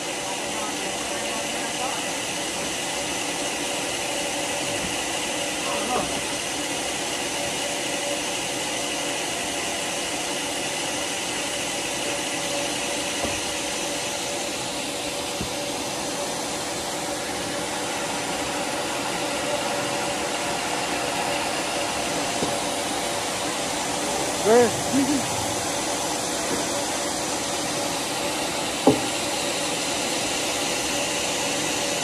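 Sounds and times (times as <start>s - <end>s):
sawmill machine hum: 0.0s - 32.0s.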